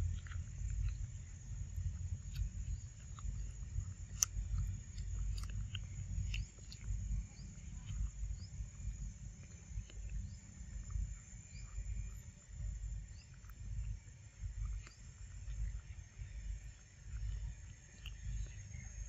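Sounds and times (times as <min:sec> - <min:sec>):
high insect drone: 0:00.0 - 0:19.0
low uneven rumble: 0:00.0 - 0:19.0
wet chewing and smacking: 0:00.0 - 0:19.0.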